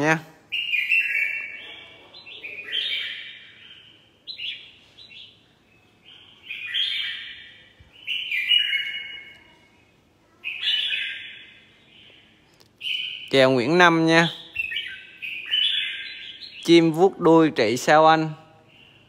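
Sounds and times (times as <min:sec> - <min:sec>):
bird warbling song: 0:00.0 - 0:19.0.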